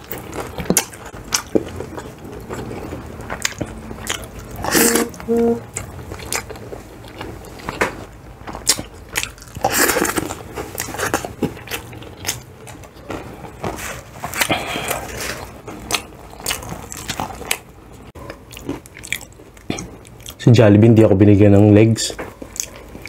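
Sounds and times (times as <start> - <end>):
crispy fried chicken crunching: 0.0 - 20.5.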